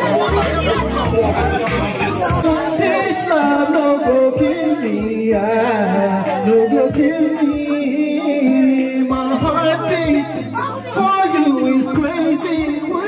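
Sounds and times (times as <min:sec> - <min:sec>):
music with steady beat: 0:00.0 - 0:13.0
man singing into microphone: 0:00.2 - 0:13.0.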